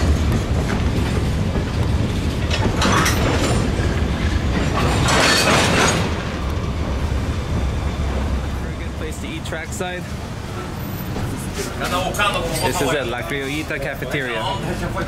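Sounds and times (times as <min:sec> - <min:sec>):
train rumbling: 0:00.0 - 0:15.0
wheels clattering on rails: 0:00.0 - 0:15.0.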